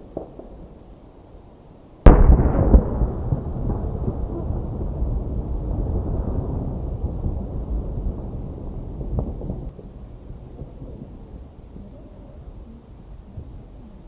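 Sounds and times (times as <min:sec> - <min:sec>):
rolling echo of fireworks: 0:00.0 - 0:01.4, 0:02.0 - 0:14.0.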